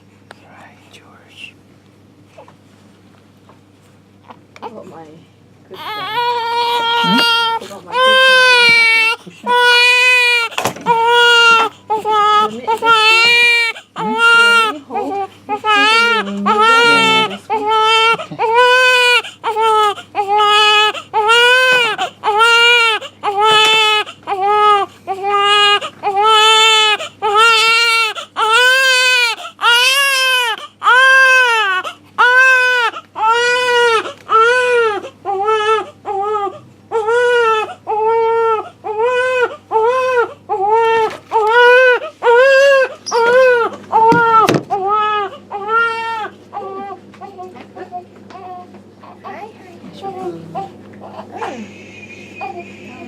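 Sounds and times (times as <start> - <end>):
newborn baby crying: 5.7 - 51.6, 52.4 - 52.7.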